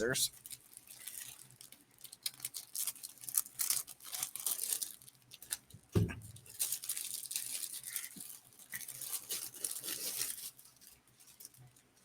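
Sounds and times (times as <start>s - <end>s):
packaging rustling and tearing: 0.3s - 12.0s.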